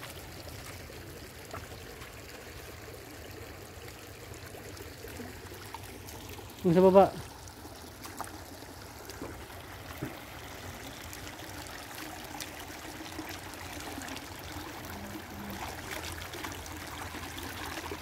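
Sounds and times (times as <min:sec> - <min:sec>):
stream trickling over stones: 0:00.0 - 0:18.0.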